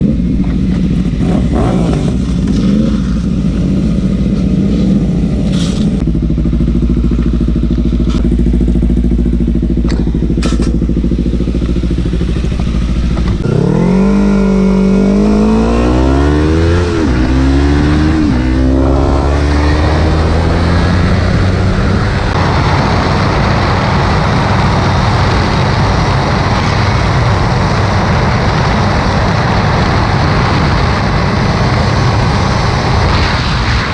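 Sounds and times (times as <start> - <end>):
motorcycle engine idling and revving: 0.0 - 33.9
wind and road noise: 0.0 - 33.9.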